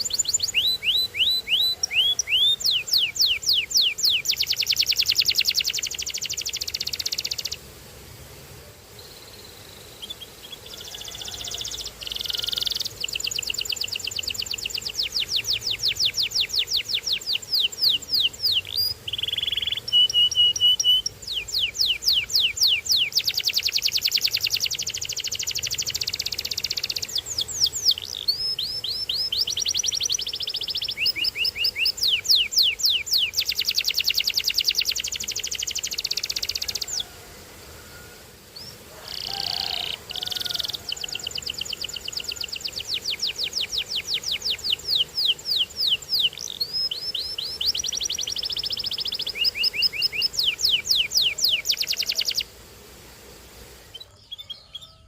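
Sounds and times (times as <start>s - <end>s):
canary singing trills: 0.0s - 7.6s, 9.0s - 37.1s, 37.9s - 52.5s, 53.8s - 55.0s.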